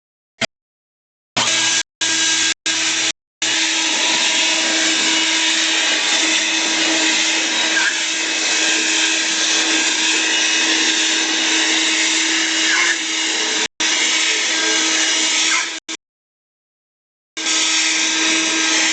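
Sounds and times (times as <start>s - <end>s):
leaf blower running: 1.4s - 15.9s, 17.4s - 18.9s.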